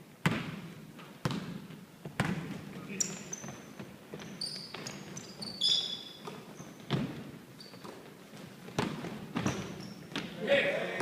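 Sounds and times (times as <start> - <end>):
sneakers squeaking: 0.2 - 10.4.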